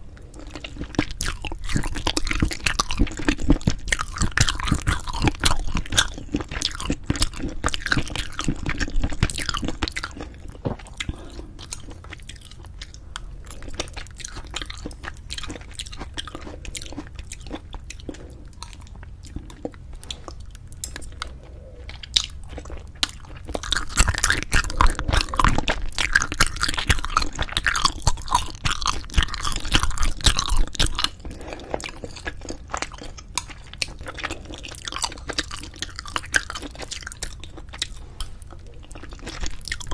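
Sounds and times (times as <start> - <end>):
wet chewing sounds: 0.1 - 39.9.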